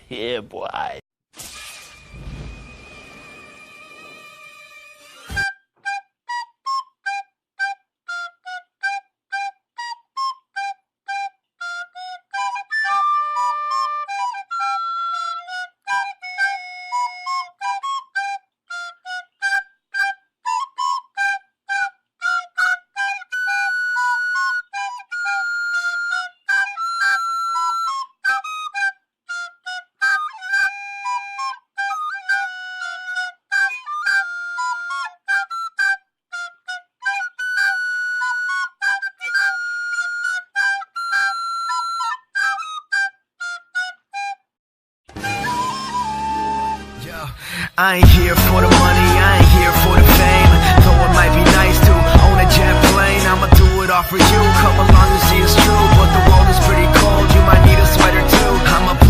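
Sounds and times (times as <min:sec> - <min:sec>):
flute-like solo melody: 0:03.3 - 0:47.2, 0:48.0 - 0:59.0.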